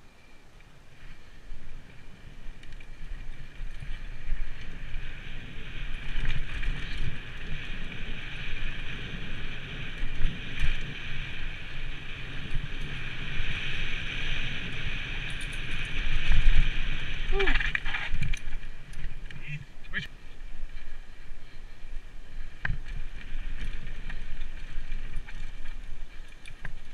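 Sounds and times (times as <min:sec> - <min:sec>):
wind buffeting microphone: 0:00.8 - 0:26.9.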